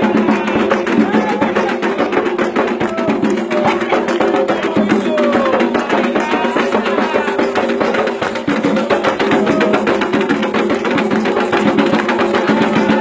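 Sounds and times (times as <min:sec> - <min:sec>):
hand drums playing fast rhythm: 0:00.0 - 0:13.0
sharp clicking percussion: 0:00.0 - 0:13.0.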